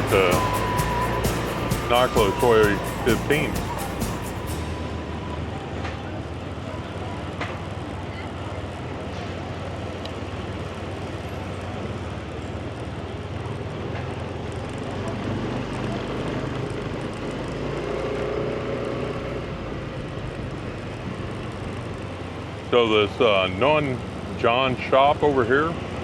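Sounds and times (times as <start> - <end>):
motorbike engine: 0.0 - 26.0
road noise: 0.0 - 26.0.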